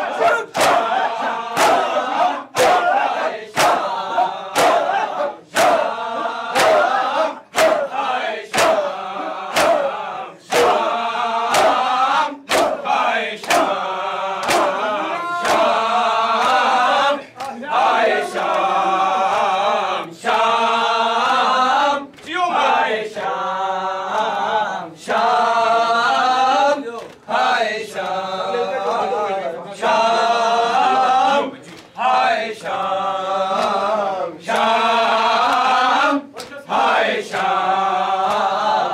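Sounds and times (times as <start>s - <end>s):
men chanting in unison: 0.0s - 38.9s.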